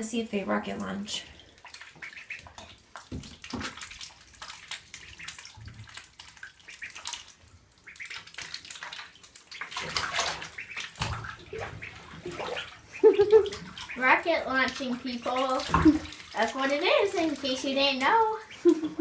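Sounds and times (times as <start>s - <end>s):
ducklings splashing in water: 0.0s - 19.0s.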